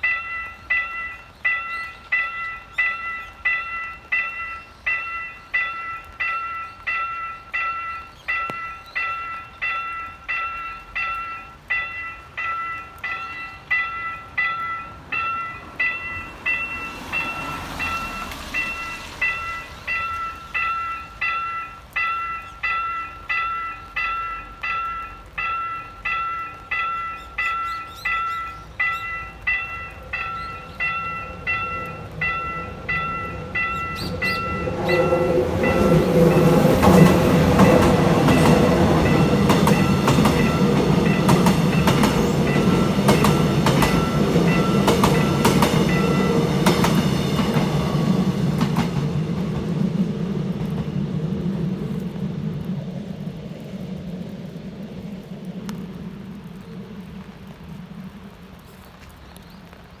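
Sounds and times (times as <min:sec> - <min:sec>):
level crossing warning bell: 0:00.0 - 0:50.9
train wheels clicking over rail joints: 0:00.0 - 0:54.2.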